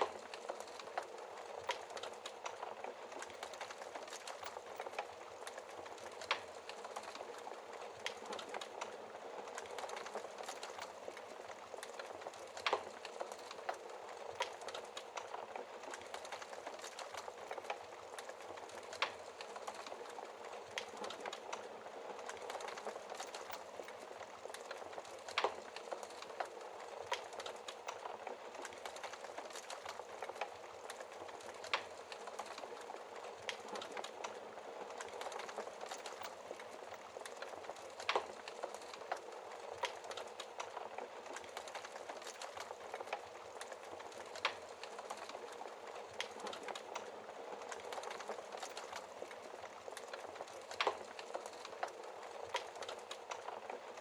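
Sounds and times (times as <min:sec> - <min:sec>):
logs crackling and popping: 0:00.0 - 0:54.0
flames hissing and fluttering: 0:00.3 - 0:53.8.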